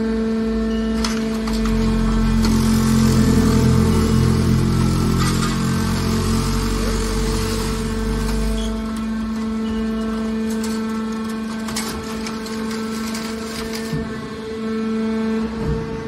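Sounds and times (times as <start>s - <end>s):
hydraulic pump drone: 0.0s - 16.0s
crushed metal clicks and scrapes: 1.0s - 14.4s.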